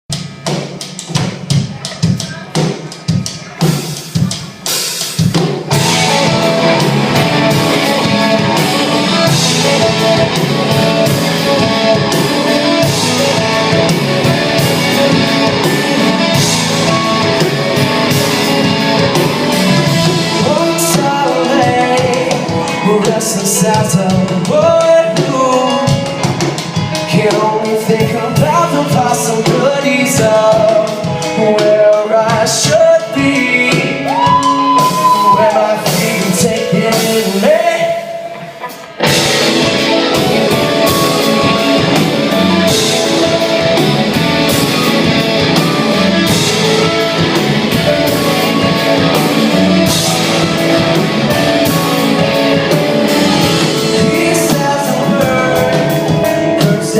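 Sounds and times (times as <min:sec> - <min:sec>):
drums: 0:00.0 - 0:56.9
band playing steady beat: 0:00.1 - 0:56.9
person singing: 0:05.7 - 0:56.9.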